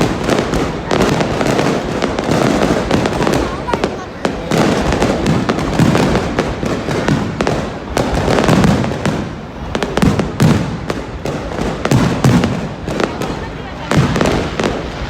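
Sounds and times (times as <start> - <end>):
fireworks deep booms: 0.0 - 15.0
fireworks sharp cracks: 0.0 - 15.0.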